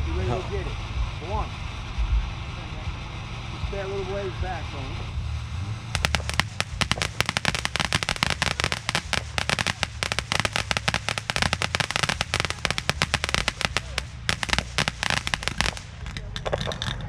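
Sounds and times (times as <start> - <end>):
fireworks popping and cracking: 0.0 - 17.0.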